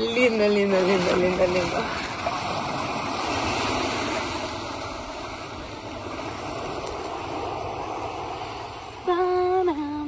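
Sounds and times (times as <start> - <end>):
waves washing over sand: 0.0 - 10.0.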